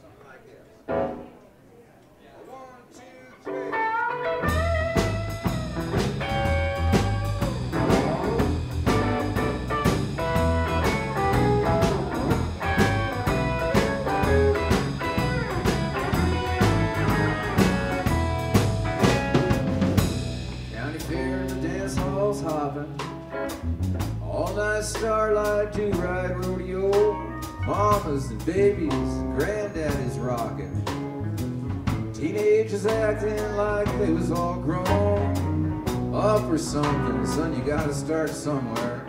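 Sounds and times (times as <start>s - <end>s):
acoustic and electric guitars: 3.4s - 39.0s
drum kit beat: 4.1s - 39.0s
low bass notes: 4.4s - 39.0s.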